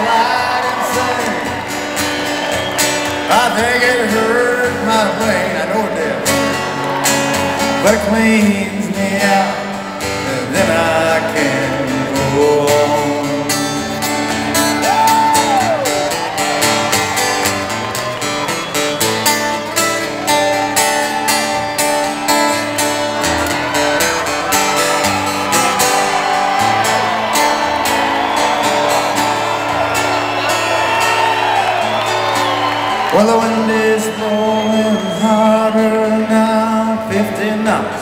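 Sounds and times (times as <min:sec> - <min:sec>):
acoustic guitar strumming: 0:00.0 - 0:38.0
gliding lead guitar line: 0:00.0 - 0:38.0.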